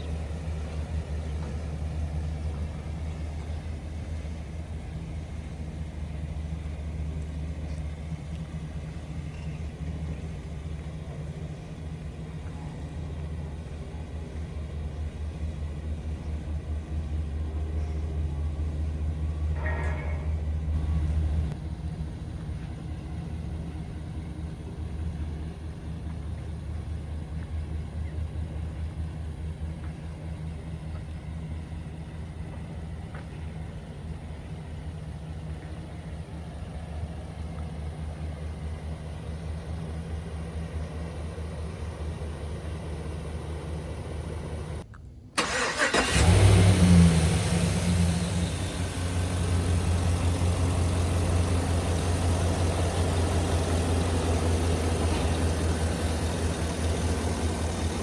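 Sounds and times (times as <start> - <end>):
pickup engine idling: 0.0 - 44.8, 45.4 - 58.0.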